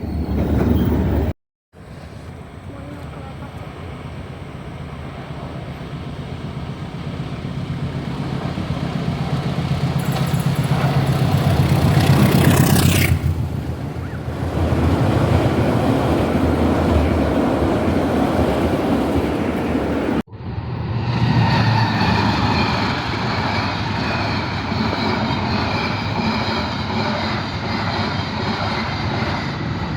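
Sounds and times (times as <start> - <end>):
train running past: 0.0 - 29.9.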